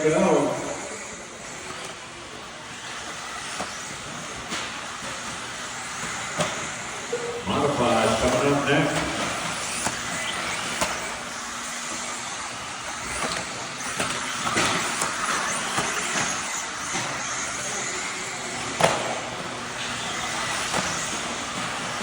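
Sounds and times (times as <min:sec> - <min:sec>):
toy car motor whine: 0:00.0 - 0:22.0.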